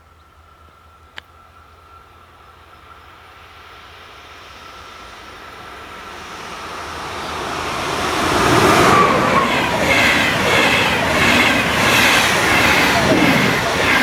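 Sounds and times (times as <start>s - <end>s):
train running noise: 0.0s - 14.0s.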